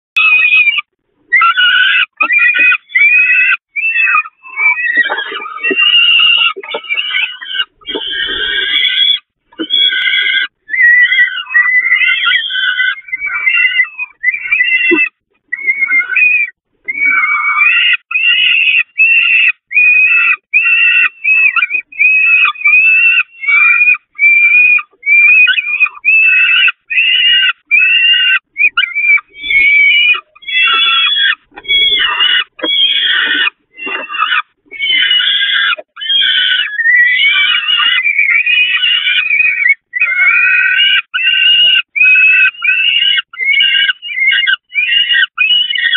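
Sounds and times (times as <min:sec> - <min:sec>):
falcon chicks begging calls: 0:00.2 - 0:45.9.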